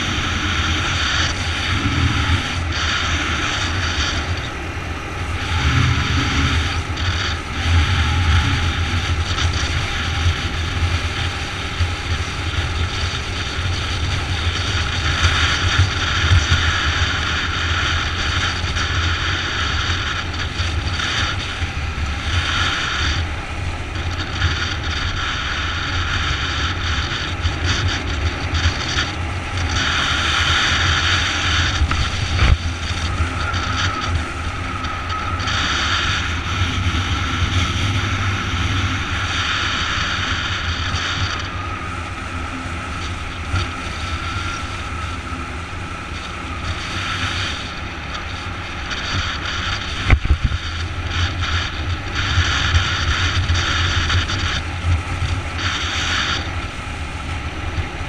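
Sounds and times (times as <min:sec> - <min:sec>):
motorbike engine drone: 0:00.0 - 0:58.0
wind rushing over microphone: 0:00.0 - 0:58.0.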